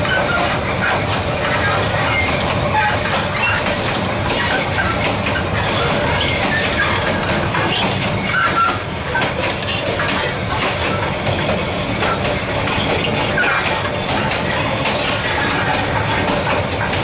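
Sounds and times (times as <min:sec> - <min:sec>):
train wheels rumbling on rails: 0:00.0 - 0:17.0
wheel squeals: 0:00.0 - 0:17.0.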